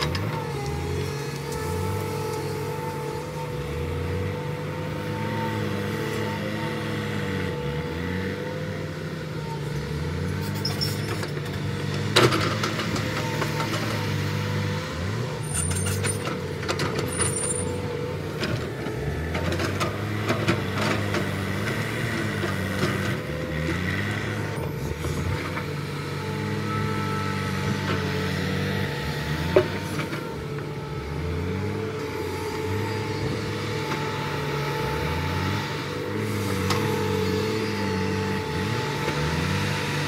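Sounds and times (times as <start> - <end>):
excavator diesel engine under load: 0.0 - 40.0.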